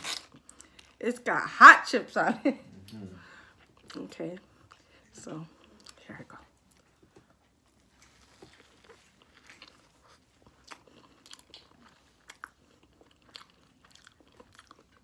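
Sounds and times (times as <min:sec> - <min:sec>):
crunching and chewing: 0:00.0 - 0:01.0, 0:02.8 - 0:15.0.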